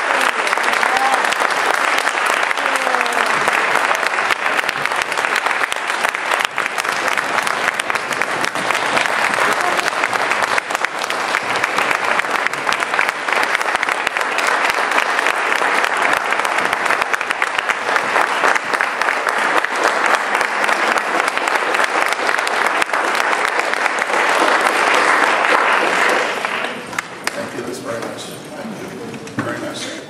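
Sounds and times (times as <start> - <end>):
audience clapping: 0.0 - 28.2.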